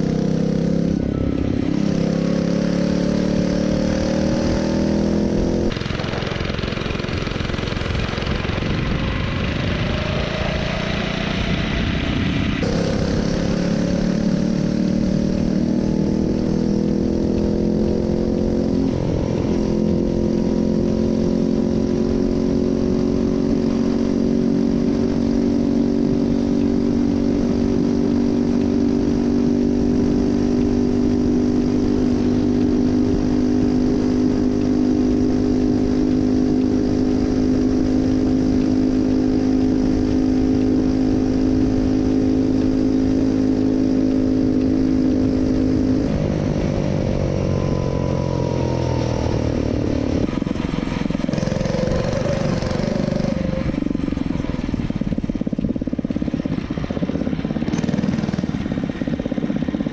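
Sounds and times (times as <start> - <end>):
motorized bicycle engine running: 0.1 - 59.9.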